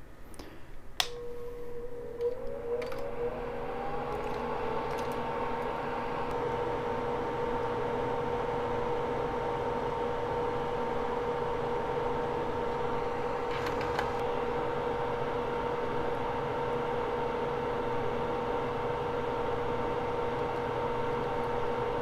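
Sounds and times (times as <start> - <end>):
electric fan motor whine: 0.9 - 22.0.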